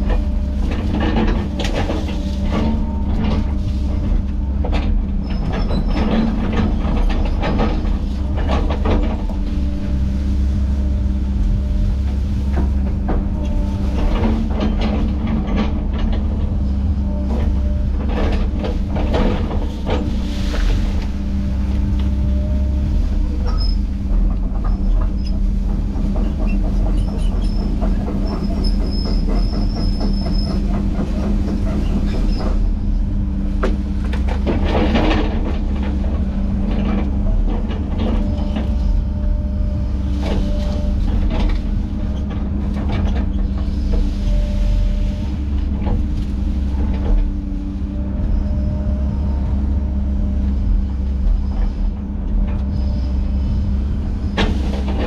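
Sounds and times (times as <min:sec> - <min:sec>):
diesel machine droning: 0:00.0 - 0:55.0
tracks squealing: 0:02.2 - 0:47.6.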